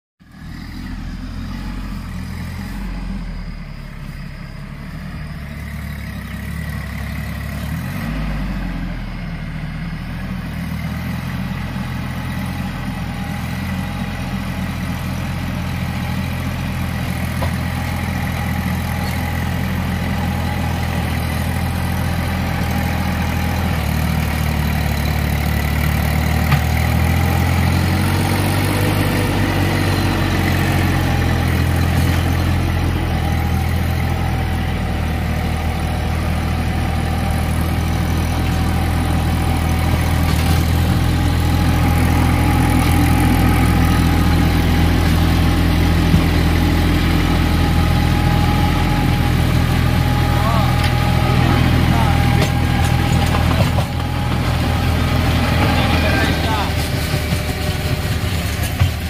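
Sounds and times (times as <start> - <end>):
diesel tractor engine running: 0.2 - 59.0.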